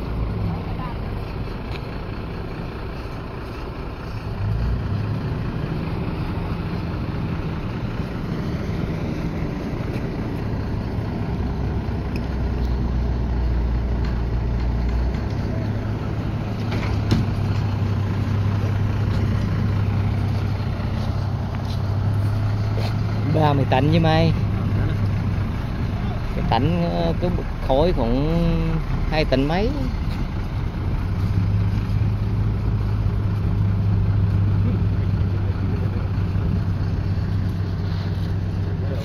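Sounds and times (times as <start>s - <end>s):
heavy truck engine running: 0.0s - 39.0s.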